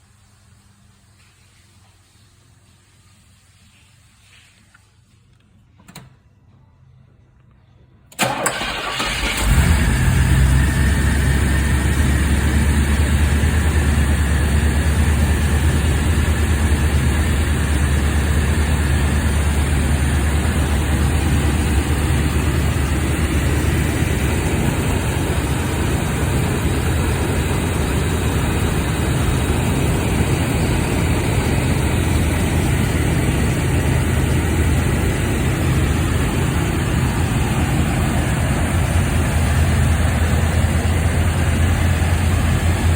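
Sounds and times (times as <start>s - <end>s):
car engine idling: 8.2s - 42.9s.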